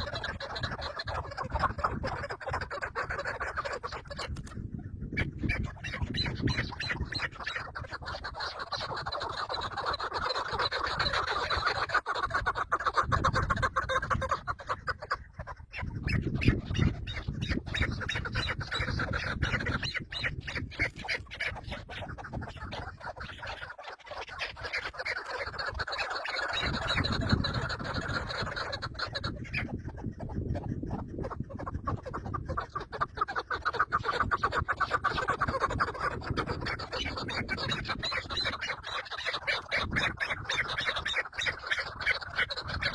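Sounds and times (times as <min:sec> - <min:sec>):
birds squawking: 0:00.0 - 0:42.9.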